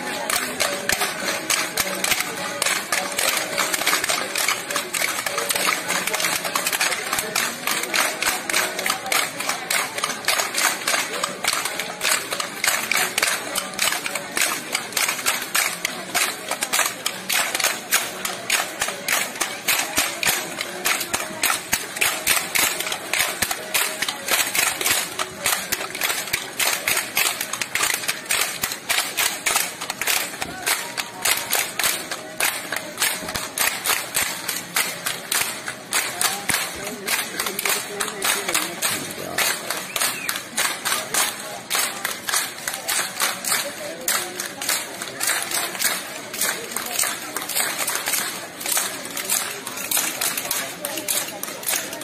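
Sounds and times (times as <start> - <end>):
crowd voices: 0.0 - 52.0
sharp clacks: 0.0 - 52.0.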